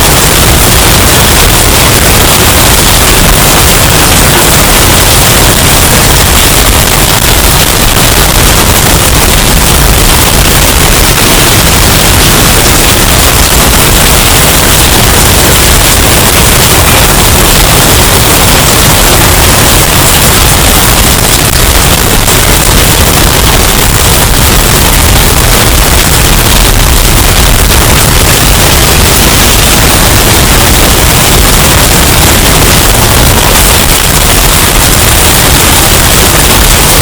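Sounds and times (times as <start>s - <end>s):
distorted hurricane wind: 0.0s - 37.0s.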